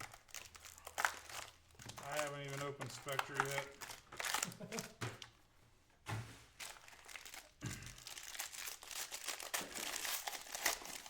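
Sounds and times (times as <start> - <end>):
plastic wrapper crinkling and tearing: 0.0 - 5.0, 6.5 - 11.0.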